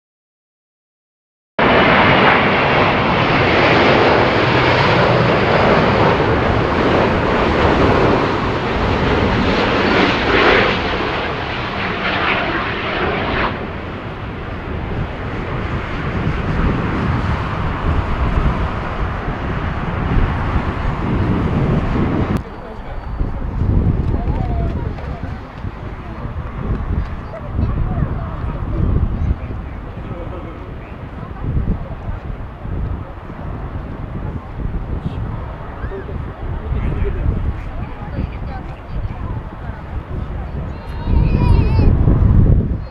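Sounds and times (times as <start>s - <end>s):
jet engines roaring: 1.6s - 42.9s.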